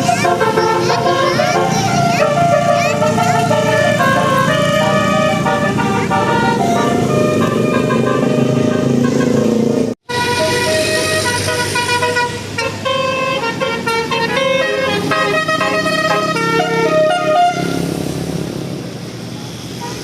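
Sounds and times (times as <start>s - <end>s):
multi-tone bus horn tune: 0.0s - 18.1s
bus engine: 0.0s - 20.0s.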